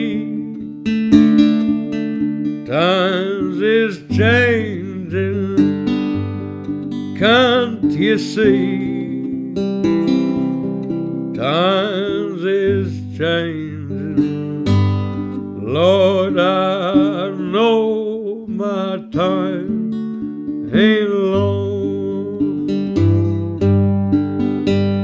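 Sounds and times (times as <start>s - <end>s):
acoustic guitar chords: 0.0s - 25.0s
sliding wordless melody: 0.0s - 25.0s.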